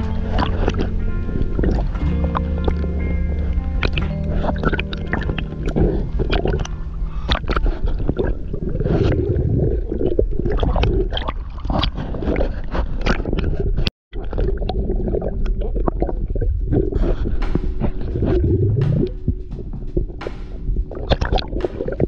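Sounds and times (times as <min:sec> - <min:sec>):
low rumble: 0:00.0 - 0:12.0, 0:14.6 - 0:22.0
sea water churning and gurgling: 0:00.0 - 0:22.0.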